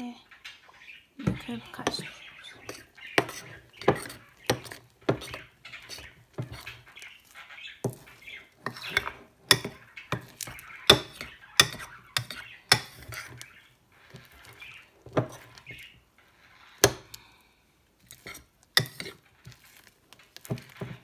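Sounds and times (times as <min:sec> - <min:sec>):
metal utensil scraping a bowl: 0:01.2 - 0:17.2, 0:18.1 - 0:21.0
slime squelching: 0:01.2 - 0:21.0.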